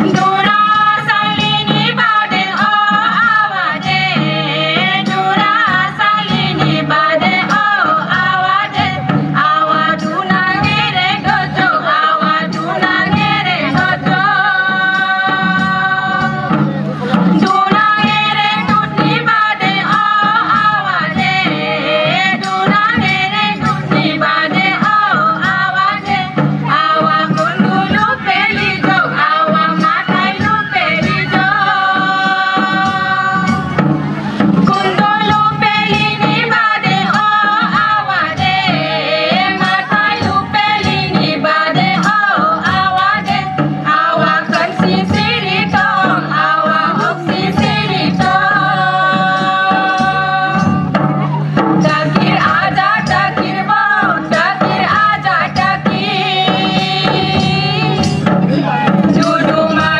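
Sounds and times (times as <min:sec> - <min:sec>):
continuous drumming: 0:00.0 - 0:59.9
folk singing: 0:00.0 - 0:59.9.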